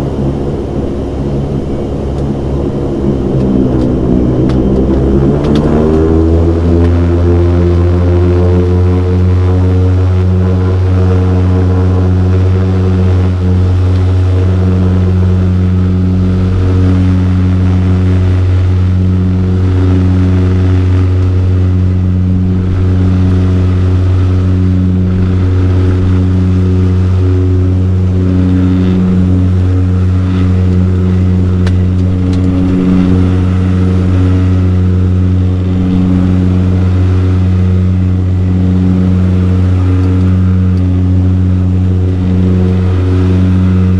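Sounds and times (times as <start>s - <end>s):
propeller engine drone: 0.0s - 43.9s.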